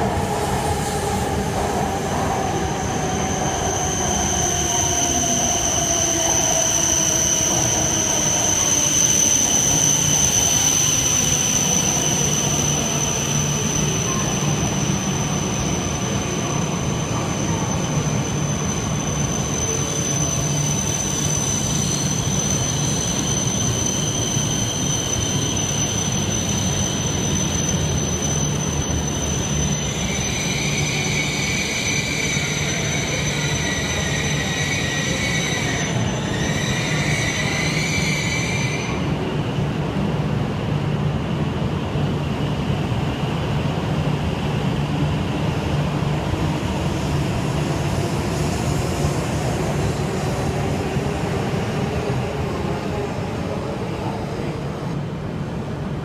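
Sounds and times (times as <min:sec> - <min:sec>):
electric train whine: 0:00.0 - 0:56.0
low train running rumble: 0:00.0 - 0:56.0.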